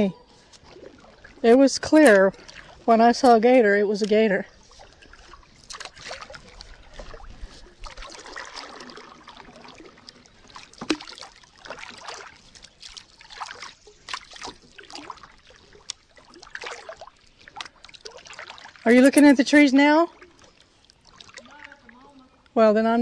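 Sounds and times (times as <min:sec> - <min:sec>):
water splashing: 0:00.0 - 0:23.0
kayak paddle strokes in water: 0:00.3 - 0:22.2
water trickling off paddle: 0:00.4 - 0:22.6.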